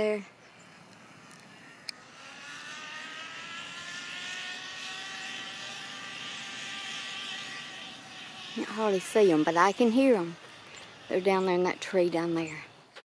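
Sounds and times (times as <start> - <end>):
zip line trolley whirring: 0.0 - 13.0.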